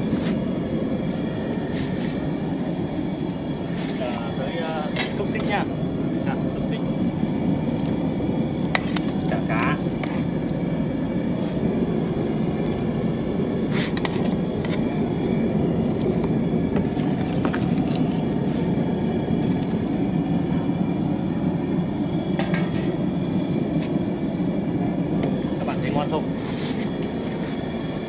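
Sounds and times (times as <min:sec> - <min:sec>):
broth boiling low rumble: 0:00.0 - 0:28.0.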